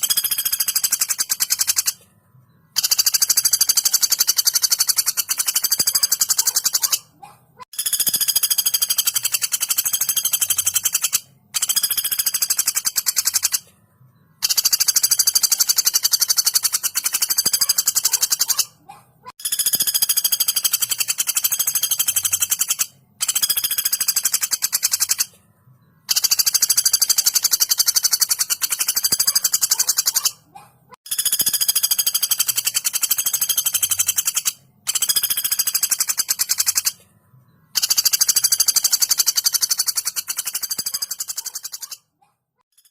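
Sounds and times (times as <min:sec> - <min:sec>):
woodpecker rattling calls: 0:00.0 - 0:02.0, 0:02.7 - 0:13.7, 0:14.4 - 0:25.4, 0:26.0 - 0:37.0, 0:37.7 - 0:42.1.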